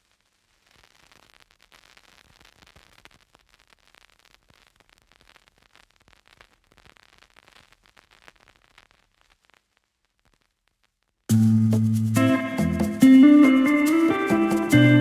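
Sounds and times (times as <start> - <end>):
faint crackling hiss: 0.0 - 15.0.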